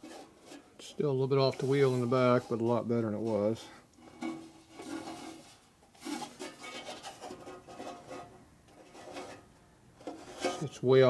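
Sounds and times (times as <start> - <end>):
bandsaw wheel rubbing and scraping: 0.0 - 9.4.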